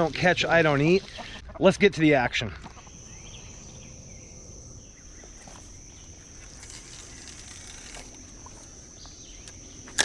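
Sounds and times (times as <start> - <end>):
insect chorus trilling: 0.0 - 10.0.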